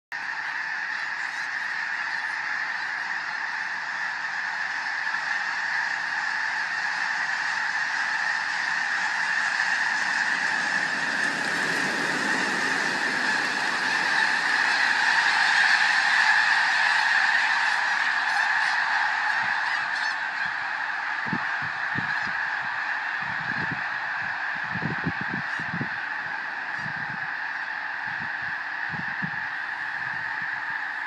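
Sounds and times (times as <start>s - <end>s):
geese honking: 0.2s - 31.0s.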